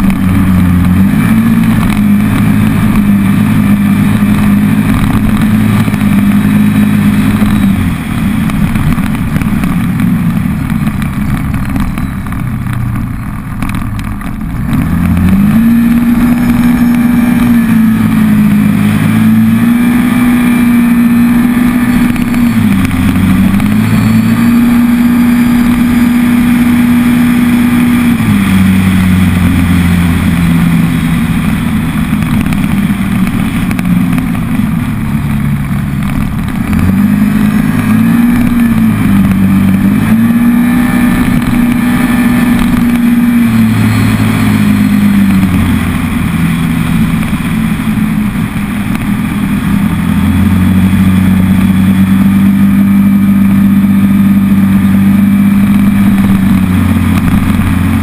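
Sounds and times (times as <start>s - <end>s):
engine running at high revs: 0.0s - 58.0s.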